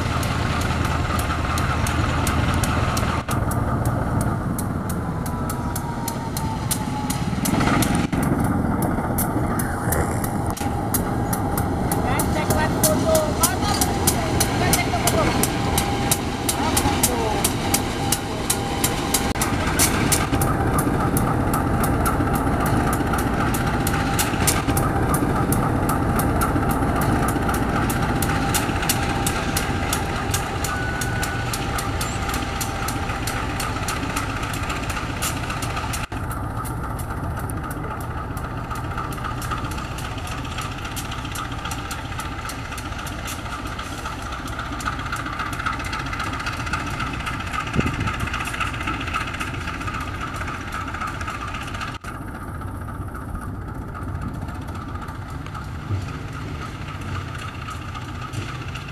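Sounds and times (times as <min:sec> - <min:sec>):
locomotive engine rumbling: 0:00.0 - 0:58.9
fast even clicking: 0:00.2 - 0:52.0.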